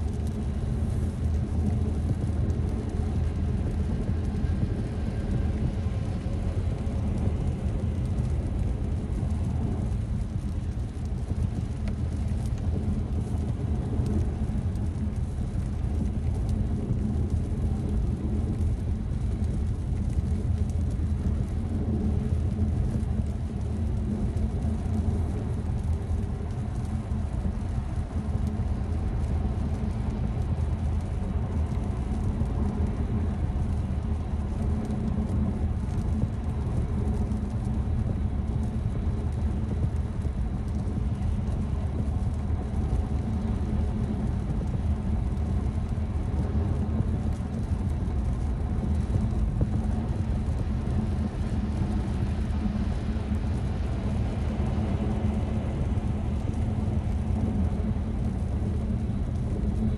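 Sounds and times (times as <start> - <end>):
road and tyre noise in car: 0.0 - 59.9.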